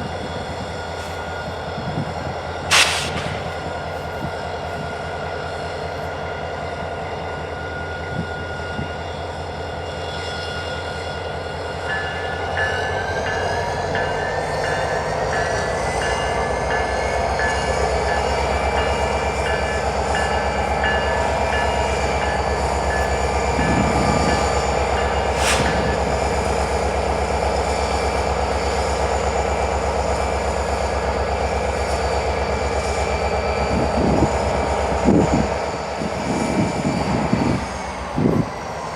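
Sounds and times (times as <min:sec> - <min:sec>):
diesel train rumble: 0:00.0 - 0:38.9.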